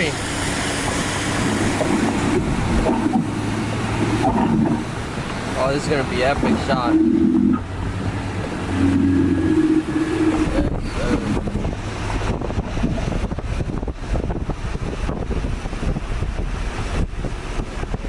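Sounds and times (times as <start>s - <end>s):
car exhaust rumble: 0.0s - 18.0s
wind buffeting microphone: 0.0s - 18.0s.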